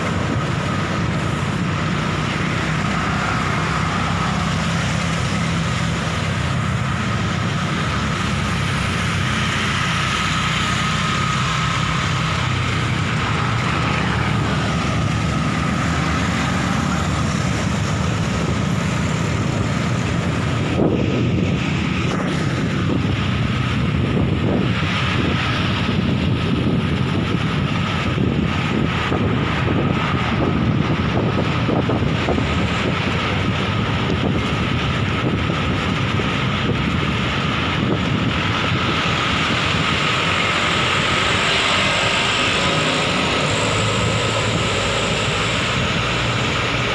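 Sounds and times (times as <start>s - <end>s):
street traffic: 0.0s - 46.9s
wind buffeting microphone: 0.0s - 46.9s.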